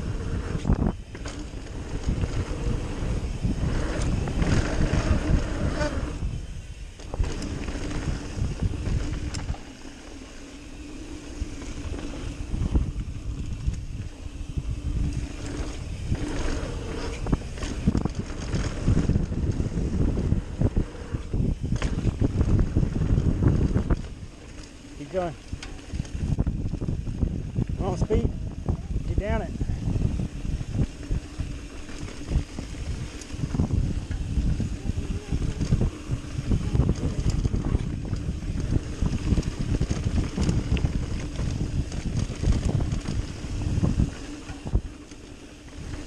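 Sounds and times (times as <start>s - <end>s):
tyres rolling on dirt: 0.0s - 28.3s, 30.3s - 46.0s
bike chain and frame rattling: 0.0s - 46.0s
wind buffeting microphone: 0.0s - 46.0s.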